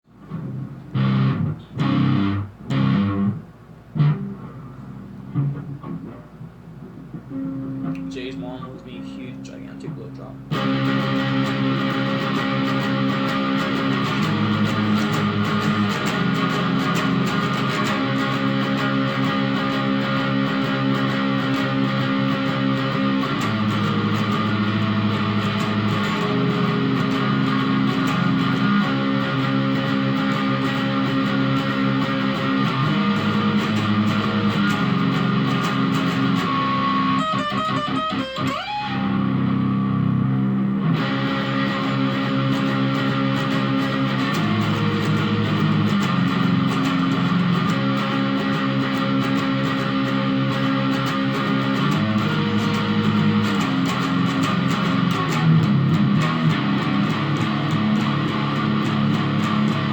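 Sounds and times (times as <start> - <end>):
guitar chords: 0.0 - 59.9.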